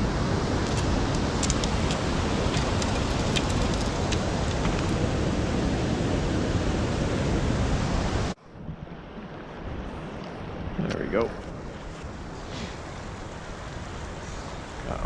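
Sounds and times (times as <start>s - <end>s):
river water rushing: 0.0s - 10.8s, 11.5s - 15.0s.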